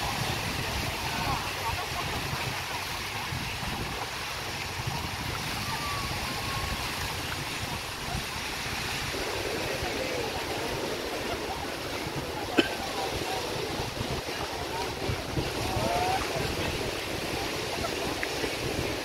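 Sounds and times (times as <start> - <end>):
small waves on sand: 0.0 - 19.0
wind on microphone: 0.0 - 19.0.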